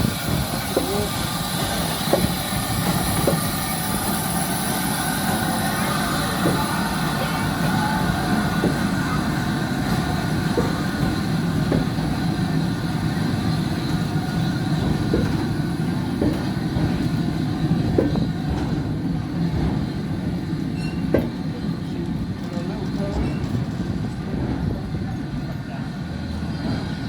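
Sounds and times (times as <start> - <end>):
wheels clicking over rail joints: 0.0 - 25.6
train rumbling along track: 0.0 - 27.0.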